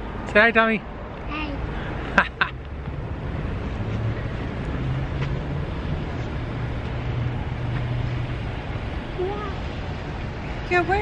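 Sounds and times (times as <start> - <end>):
street noise: 0.0 - 11.0
vehicle engine humming: 0.0 - 11.0.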